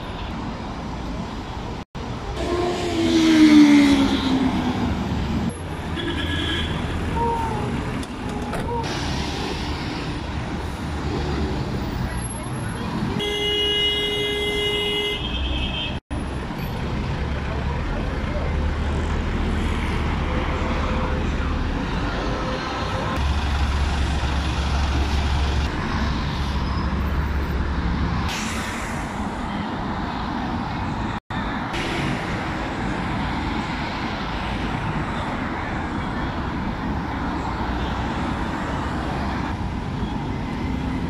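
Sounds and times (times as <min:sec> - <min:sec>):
street traffic passing: 0:00.0 - 0:41.0.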